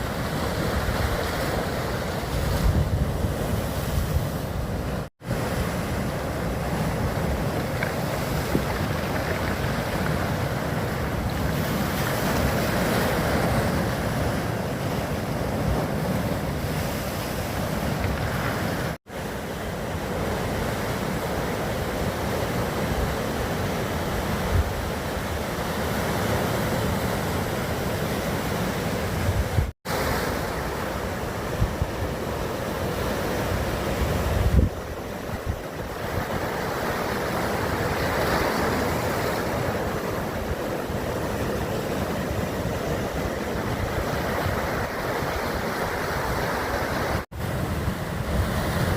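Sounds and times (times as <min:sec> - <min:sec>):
wind buffeting microphone: 0:00.0 - 0:19.0, 0:20.0 - 0:48.9
sea waves washing ashore: 0:00.0 - 0:48.9.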